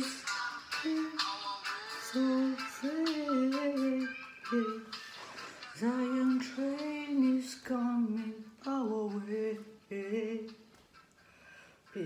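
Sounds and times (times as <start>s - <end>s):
woman singing unaccompanied: 0.0s - 5.0s, 5.7s - 10.7s.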